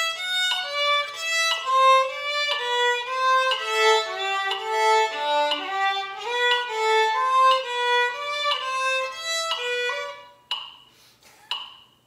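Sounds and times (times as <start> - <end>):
solo violin melody: 0.0 - 10.4
sharp metronome ticks: 0.0 - 12.0.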